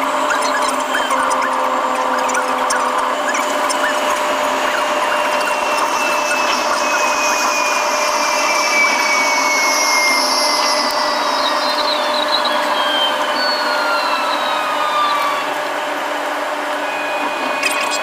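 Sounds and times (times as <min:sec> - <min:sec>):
high whines falling in pitch: 0:00.0 - 0:18.0.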